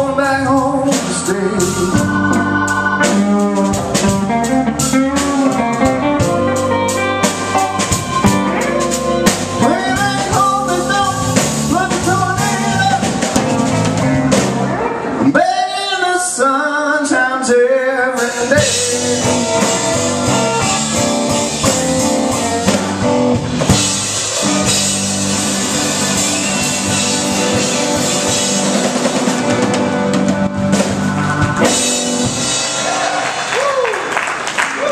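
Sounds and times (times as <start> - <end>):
bending electric guitar lines: 0.0 - 15.4, 18.3 - 32.8
live blues band: 0.0 - 34.9.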